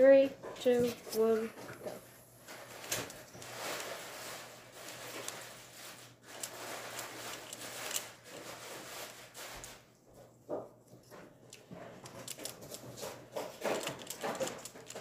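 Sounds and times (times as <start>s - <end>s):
plastic puzzle rustling: 0.6s - 9.9s, 10.9s - 15.0s.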